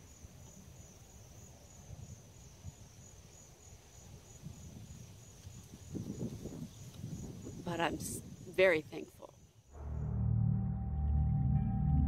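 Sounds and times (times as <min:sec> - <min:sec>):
crickets trilling: 0:00.0 - 0:09.7.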